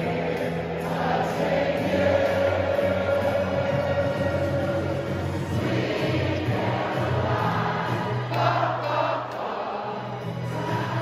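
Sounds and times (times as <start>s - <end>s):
crowd singing along: 0.0s - 11.0s
music over stadium speakers: 0.0s - 11.0s.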